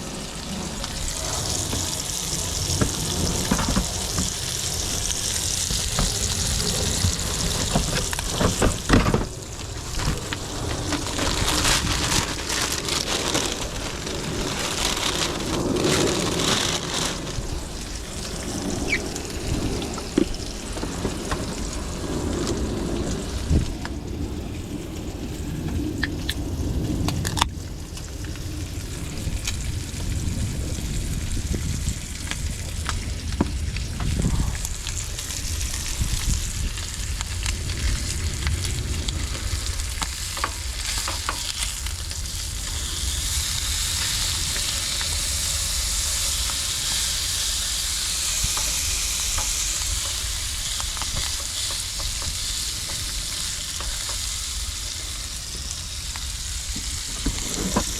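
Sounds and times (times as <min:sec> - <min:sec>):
hot dogs sizzling in a frying pan: 0:00.0 - 0:57.9.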